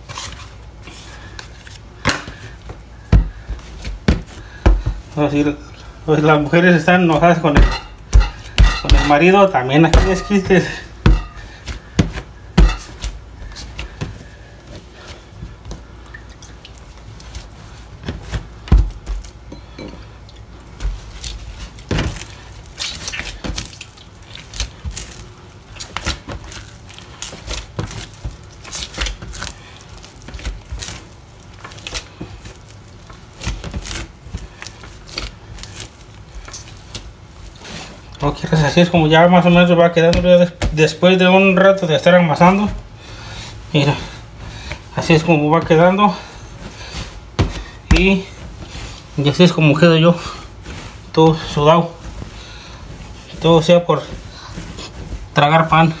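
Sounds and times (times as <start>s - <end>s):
dough being kneaded by hand: 0.0s - 56.0s.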